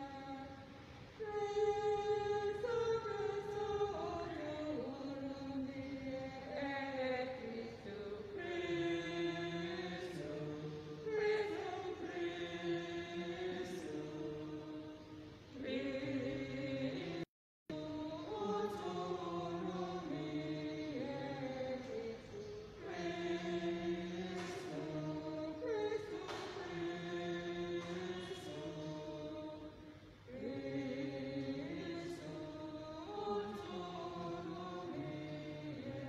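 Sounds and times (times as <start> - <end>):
voices singing a chant: 0.0 - 36.0.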